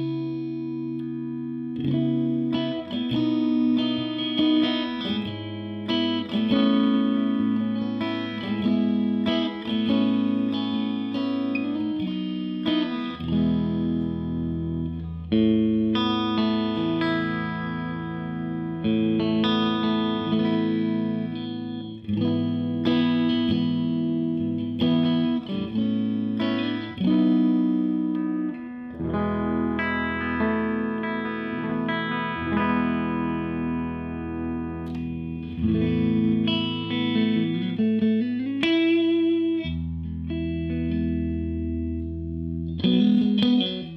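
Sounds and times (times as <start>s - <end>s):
electric guitar chords and notes: 0.0s - 43.9s.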